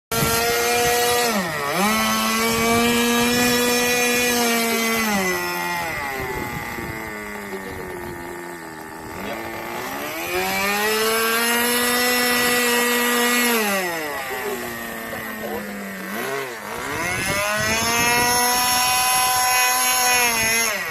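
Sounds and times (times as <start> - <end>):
model aircraft engine revving: 0.1 - 20.9.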